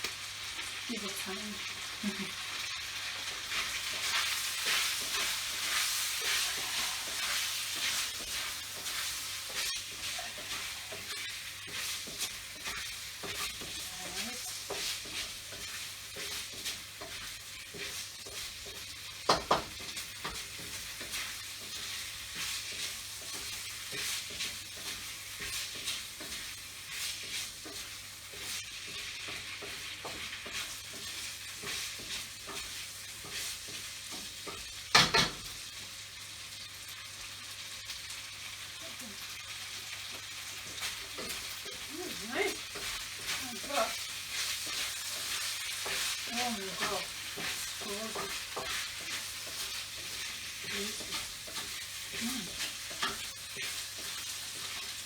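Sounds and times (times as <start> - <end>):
food sizzling in a pan: 0.0 - 55.0
spatula scraping pan: 0.5 - 36.0, 39.2 - 55.0.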